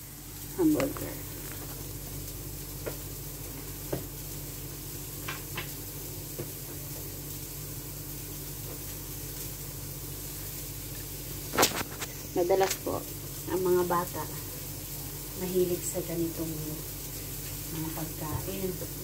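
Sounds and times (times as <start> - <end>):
burger patty sizzling: 0.0 - 19.0.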